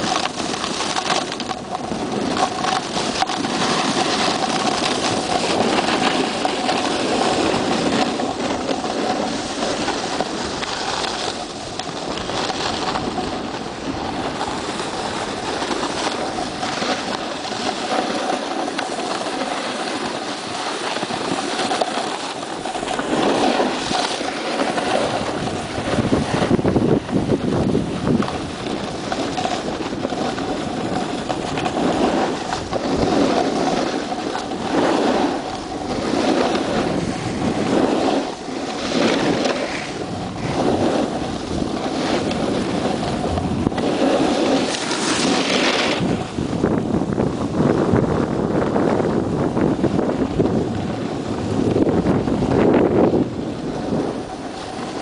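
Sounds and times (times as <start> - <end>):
skis scraping on snow: 0.0 - 55.0
wind over microphone: 0.0 - 55.0.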